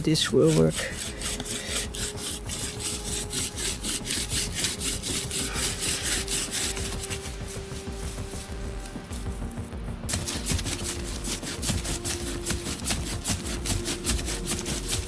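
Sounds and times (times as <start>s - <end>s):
bow drill spindle rubbing wood: 0.0s - 15.0s.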